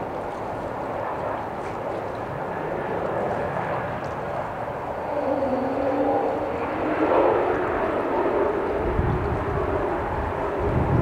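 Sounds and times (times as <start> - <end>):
low steady hum: 0.0 - 10.9
jet engine noise: 0.0 - 11.0.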